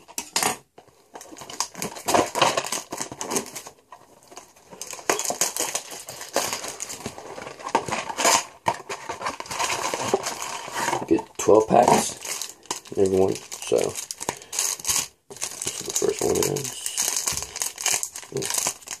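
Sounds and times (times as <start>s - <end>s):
plastic wrap crinkling and tearing: 0.0s - 19.0s.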